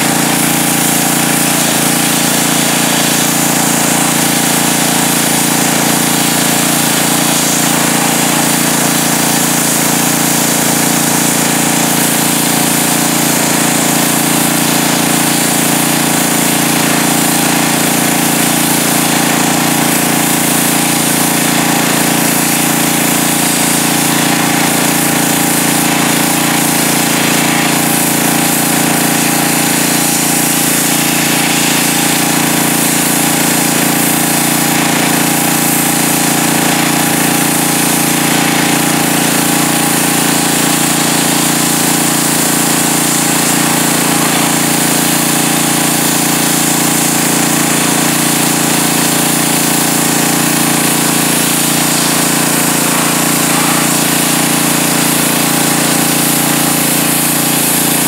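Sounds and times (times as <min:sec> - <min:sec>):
pressure washer jet hissing: 0:00.0 - 0:58.0.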